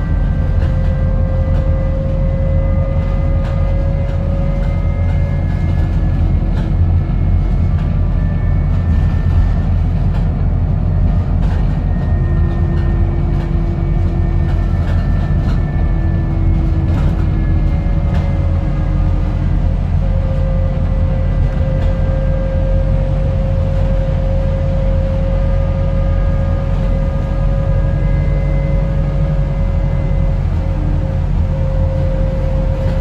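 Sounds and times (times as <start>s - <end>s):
bus drivetrain and tyres droning: 0.0s - 33.0s.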